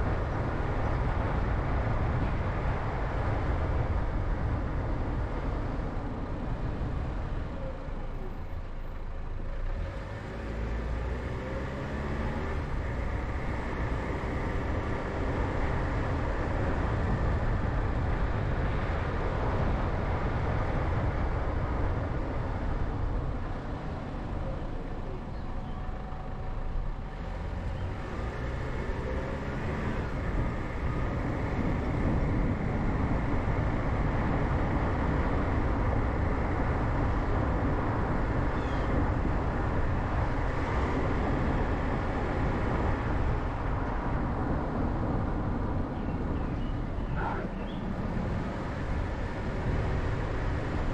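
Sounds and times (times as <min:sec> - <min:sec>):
car driving with road noise: 0:00.0 - 0:50.9.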